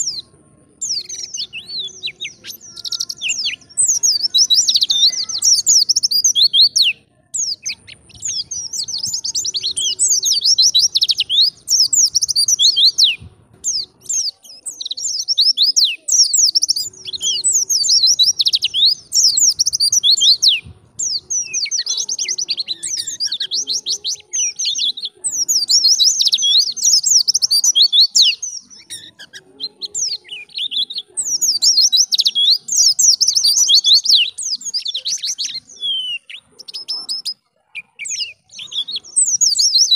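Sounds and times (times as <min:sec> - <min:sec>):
bird high-pitched twittering: 0:00.0 - 0:39.9.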